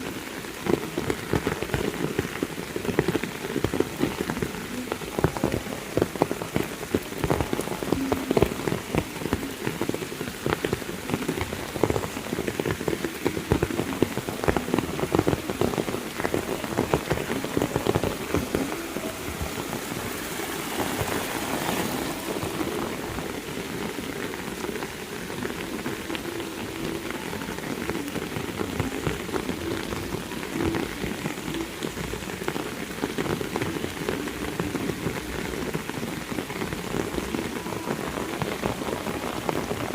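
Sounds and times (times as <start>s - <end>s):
heavy rain hissing: 0.0s - 39.9s
sharp raindrop impacts: 0.0s - 39.9s.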